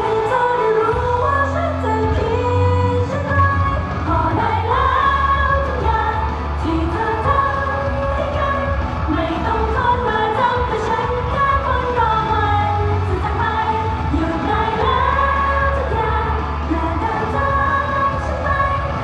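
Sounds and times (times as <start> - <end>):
pop song through loudspeakers: 0.0 - 19.0
steady bass line: 0.0 - 19.0
woman singing: 0.0 - 19.0.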